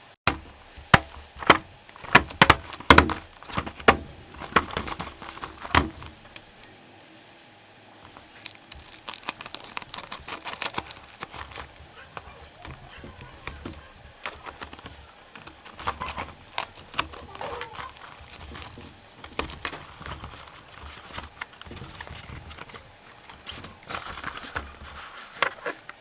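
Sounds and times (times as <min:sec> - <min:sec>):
packaging clicks and knocks: 0:00.3 - 0:06.7, 0:08.0 - 0:26.0
packaging crinkling: 0:00.3 - 0:06.8, 0:08.0 - 0:26.0.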